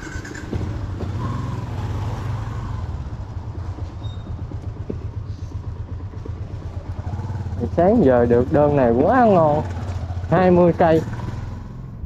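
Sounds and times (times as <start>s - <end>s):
motorbike engine rumbling: 0.0s - 12.0s.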